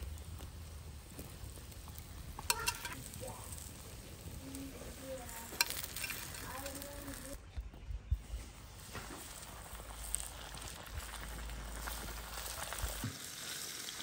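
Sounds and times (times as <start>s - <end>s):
hot oil sizzling: 0.0s - 7.4s, 8.2s - 14.0s.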